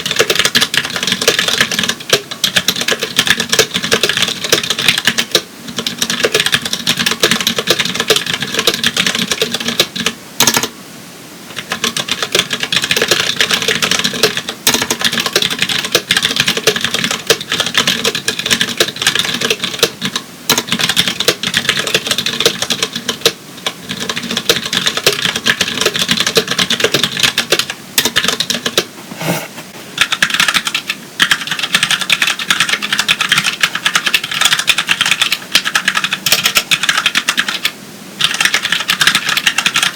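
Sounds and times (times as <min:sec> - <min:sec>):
fast typing on mechanical keyboard: 0:00.0 - 0:10.7, 0:11.5 - 0:28.9, 0:30.0 - 0:39.9.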